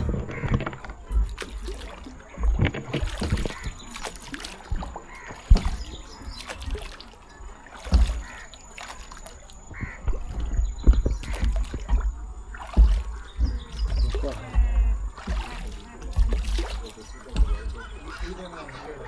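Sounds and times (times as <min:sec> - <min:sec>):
birds calling: 0:00.0 - 0:19.0
oars knocking and splashing: 0:00.0 - 0:19.0.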